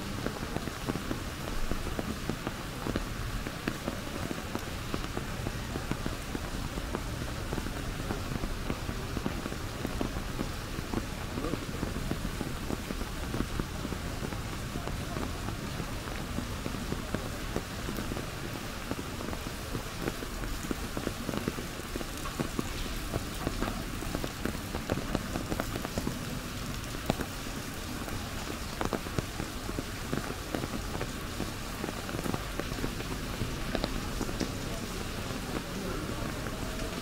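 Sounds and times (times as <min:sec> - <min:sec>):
rain falling on an umbrella: 0:00.0 - 0:37.0.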